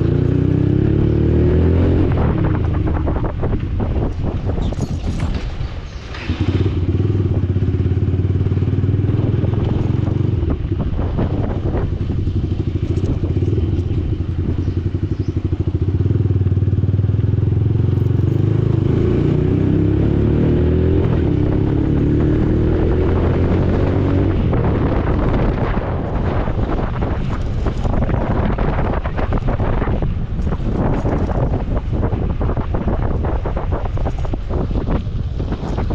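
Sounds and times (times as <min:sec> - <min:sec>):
motorcycle engine with loud exhaust: 0:00.0 - 0:35.9.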